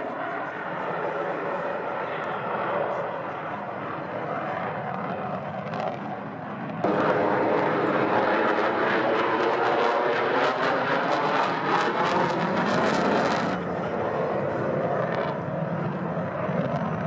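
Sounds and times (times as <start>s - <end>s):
jet engine roaring with crackle: 0.0s - 17.0s.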